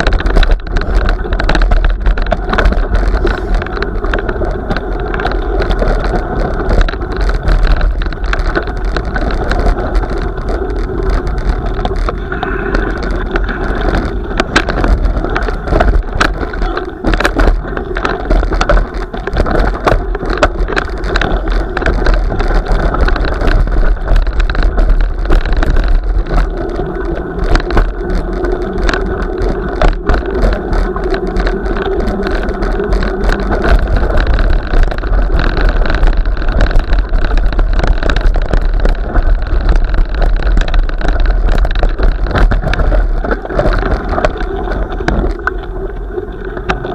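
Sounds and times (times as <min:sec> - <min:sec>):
vehicle rolling over snow and ice: 0:00.0 - 0:46.9.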